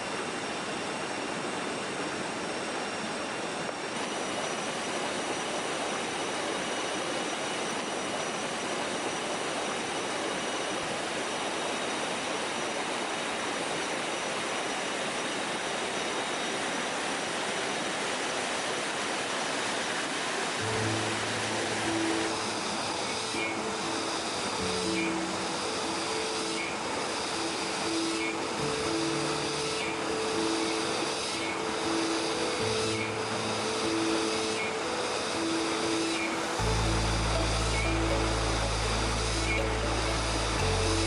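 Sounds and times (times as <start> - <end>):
faint steady high tones: 0.0 - 41.0
water rushing: 0.0 - 41.0.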